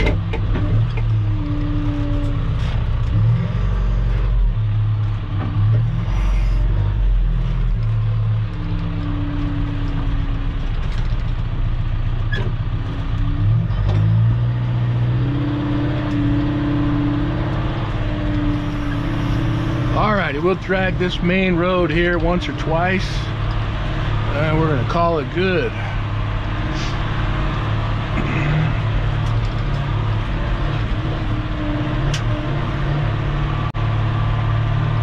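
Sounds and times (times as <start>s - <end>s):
heavy equipment engine under load: 0.0s - 35.0s.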